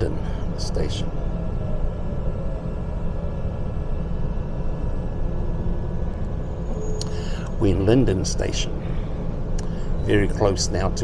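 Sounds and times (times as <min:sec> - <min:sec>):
faint steady tones: 0:00.0 - 0:11.0
train rumbling inside carriage: 0:00.0 - 0:11.0.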